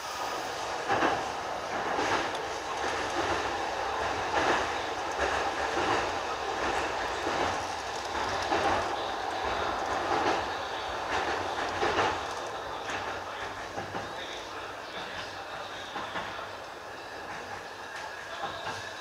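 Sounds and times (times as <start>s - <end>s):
train wheels rumbling on rail: 0.0s - 19.0s
wheels clacking over rail joints: 0.7s - 16.5s.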